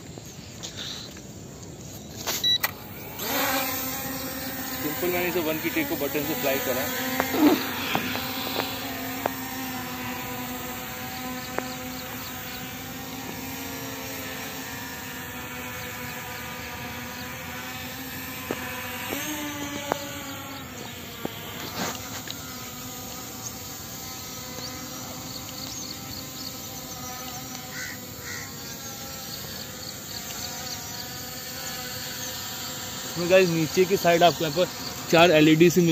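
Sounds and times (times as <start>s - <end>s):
drone propellers humming: 2.6s - 35.9s.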